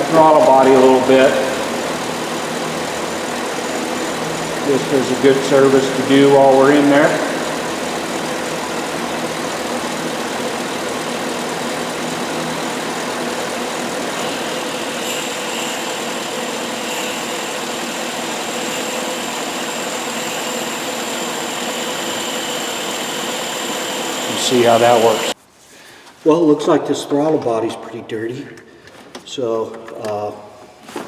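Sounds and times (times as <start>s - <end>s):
car engine idling: 0.0s - 25.4s
faint high whine: 0.0s - 25.4s.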